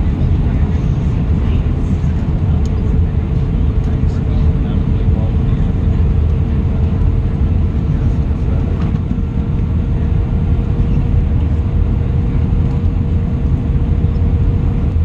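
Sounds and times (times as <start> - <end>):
airplane cabin engine rumble: 0.0 - 15.0
steady hum: 0.0 - 15.0.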